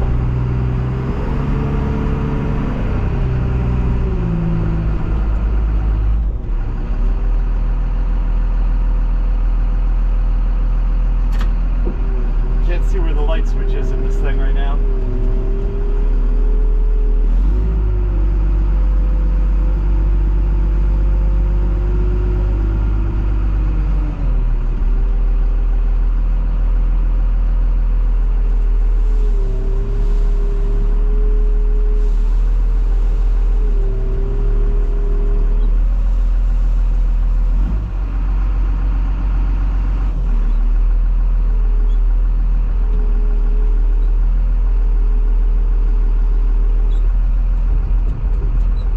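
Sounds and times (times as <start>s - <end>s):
truck engine and road rumble: 0.0s - 48.9s.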